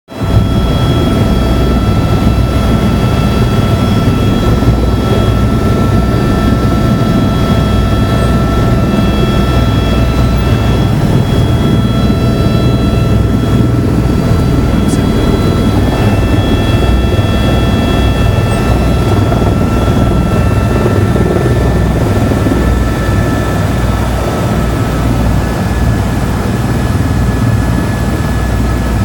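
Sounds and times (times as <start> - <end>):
helicopter rotor drone: 0.1 - 29.0
high engine whine: 0.1 - 29.0.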